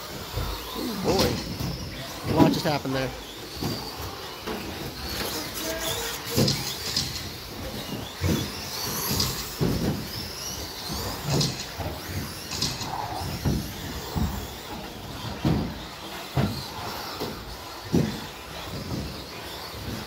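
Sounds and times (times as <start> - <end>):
motor and gear whine: 0.0 - 20.0.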